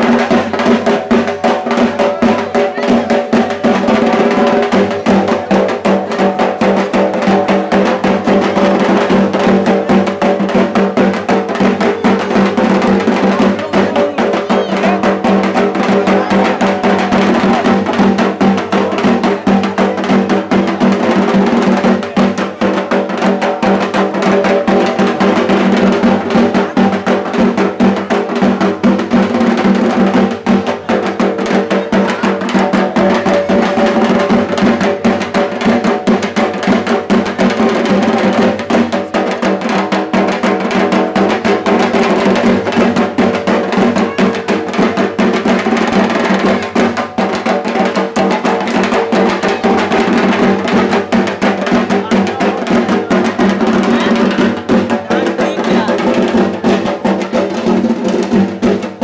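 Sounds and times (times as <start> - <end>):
drums beaten fast: 0.0 - 59.0.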